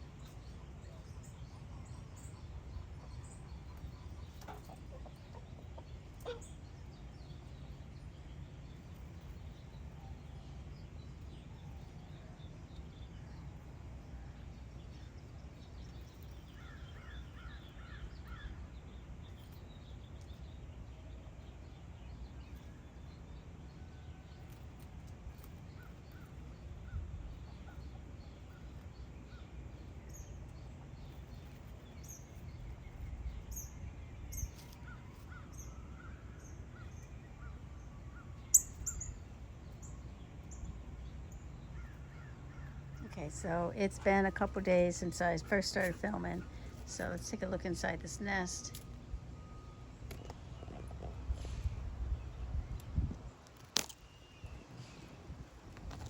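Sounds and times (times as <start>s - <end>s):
bird calls: 0.0s - 24.6s, 25.3s - 51.6s.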